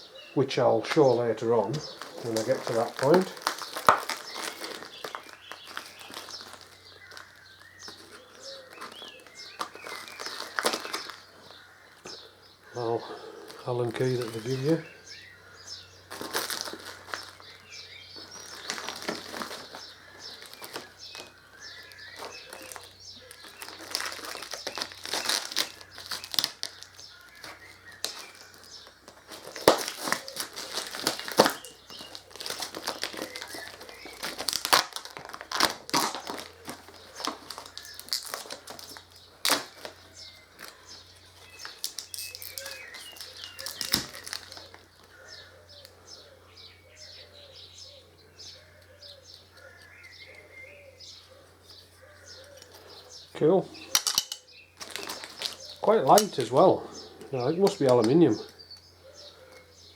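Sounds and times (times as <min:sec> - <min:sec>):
birds chirping: 0:00.0 - 0:59.9
plastic packaging crinkling: 0:00.8 - 0:46.0, 0:53.8 - 0:58.8.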